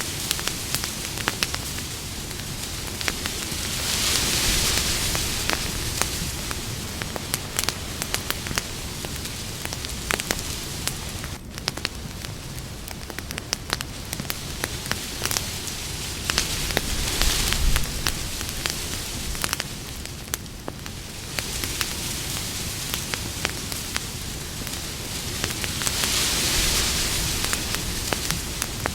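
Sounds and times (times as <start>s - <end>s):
fire crackles and pops: 0.0s - 28.9s
hiss of flames: 0.0s - 28.9s.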